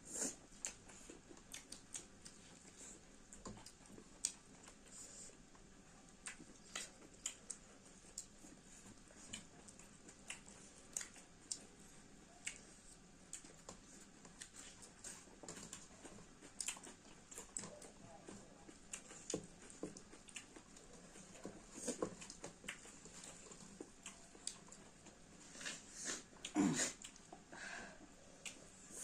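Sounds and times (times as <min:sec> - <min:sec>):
faint chewing mouth clicks: 0:00.1 - 0:27.5, 0:28.4 - 0:29.0.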